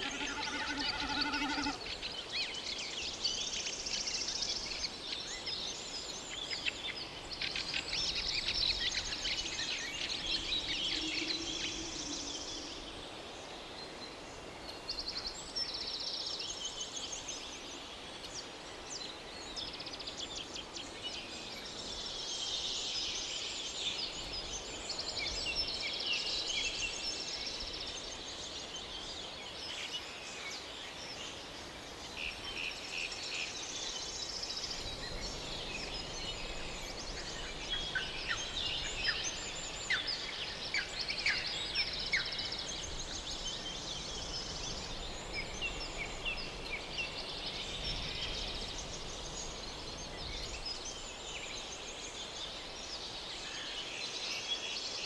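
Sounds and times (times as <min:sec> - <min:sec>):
low background hiss: 0:00.0 - 0:55.0.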